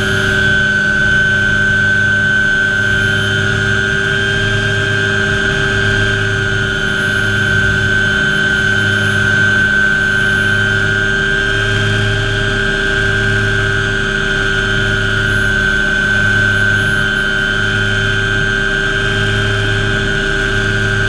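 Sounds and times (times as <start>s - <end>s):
helicopter rotor drone: 0.0s - 21.0s
turbine whine: 0.0s - 21.0s.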